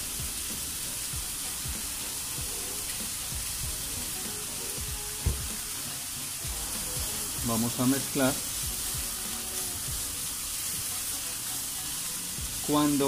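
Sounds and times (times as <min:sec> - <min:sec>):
vegetables sizzling in a skillet: 0:00.0 - 0:13.0.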